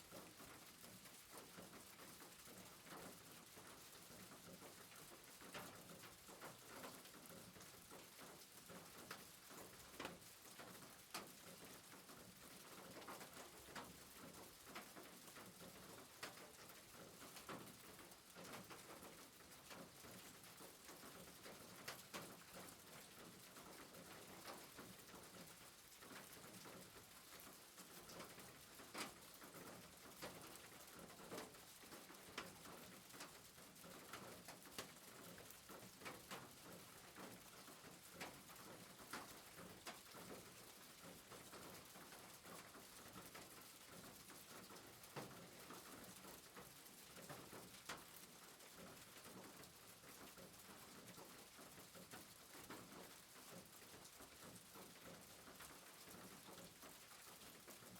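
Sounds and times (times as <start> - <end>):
faint soft rain hiss: 0.0 - 57.9
raindrops ticking: 2.5 - 57.0.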